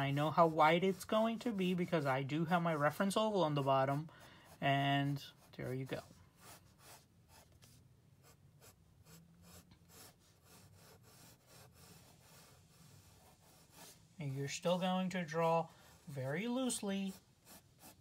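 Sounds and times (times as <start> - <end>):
pencil scratching on paper: 0.0 - 18.0.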